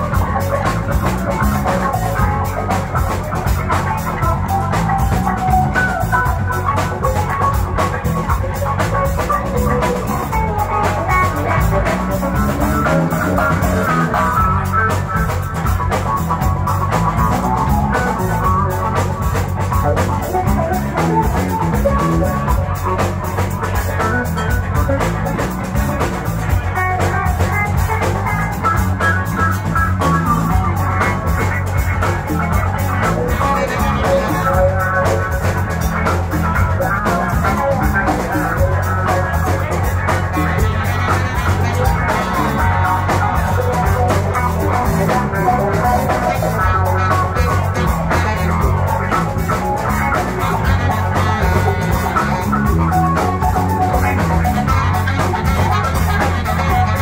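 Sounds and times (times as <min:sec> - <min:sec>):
drum kit beat: 0:00.0 - 0:57.0
electric bass: 0:00.0 - 0:57.0
electric guitar: 0:00.0 - 0:57.0
keyboards: 0:00.0 - 0:57.0.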